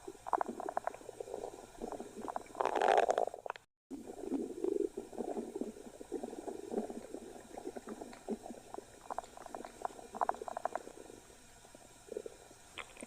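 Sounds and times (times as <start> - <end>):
stomach gurgling: 0.0 - 13.0.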